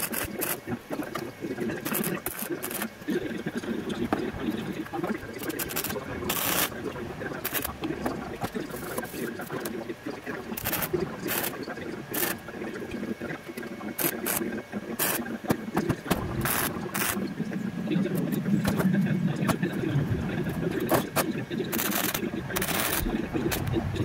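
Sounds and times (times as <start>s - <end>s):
welder arc crackling: 0.0s - 24.0s.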